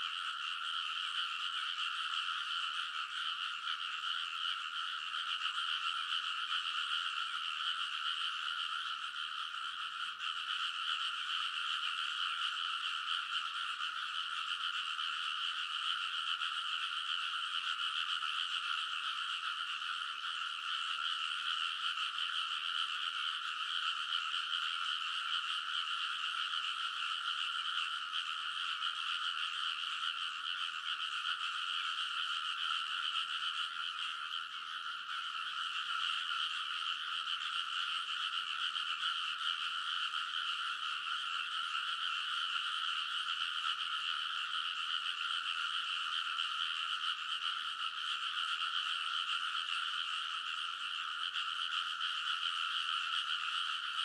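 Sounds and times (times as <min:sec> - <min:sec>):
chorus of frogs croaking: 0:00.0 - 0:54.0.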